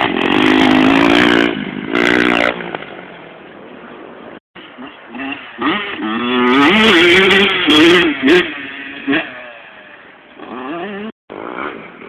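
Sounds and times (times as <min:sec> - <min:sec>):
motocross bike engine revving: 0:00.0 - 0:02.7, 0:04.6 - 0:12.0
another motorbike engine: 0:00.0 - 0:03.2, 0:04.6 - 0:12.0.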